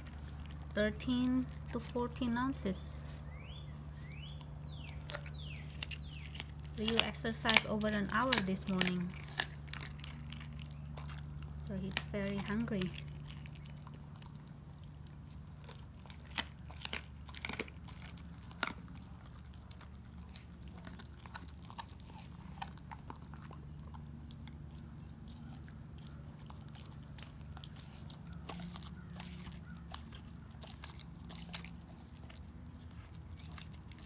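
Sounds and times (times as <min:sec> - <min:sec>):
dog crunching on bones: 0:00.0 - 0:34.0
low hum: 0:00.0 - 0:34.0.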